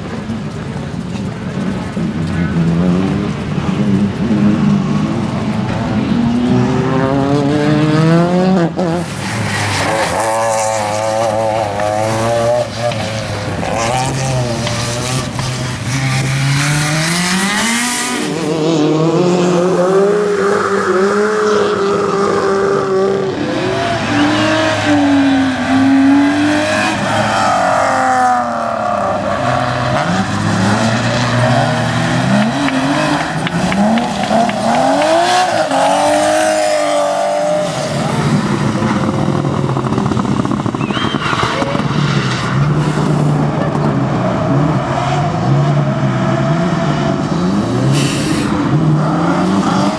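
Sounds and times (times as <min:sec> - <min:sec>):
rally car engine revving: 0:00.0 - 0:49.9.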